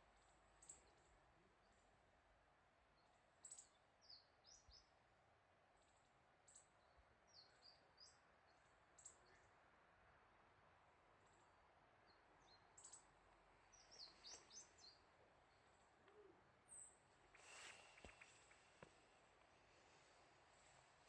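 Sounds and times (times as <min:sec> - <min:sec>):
small birds chirping: 0:00.0 - 0:05.1, 0:05.7 - 0:09.7, 0:11.1 - 0:21.0.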